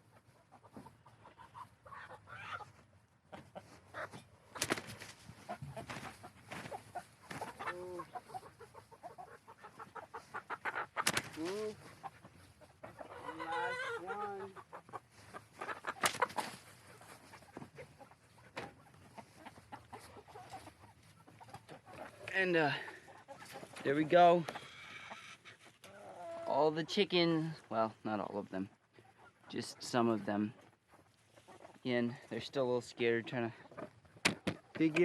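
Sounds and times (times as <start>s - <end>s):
chickens clucking and squawking: 0.0s - 35.0s.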